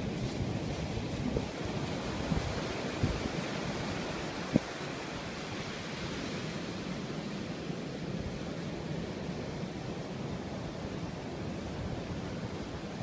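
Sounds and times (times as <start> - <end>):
ocean surf on sandy beach: 0.0 - 13.0
wind rumbling on microphone: 0.0 - 13.0.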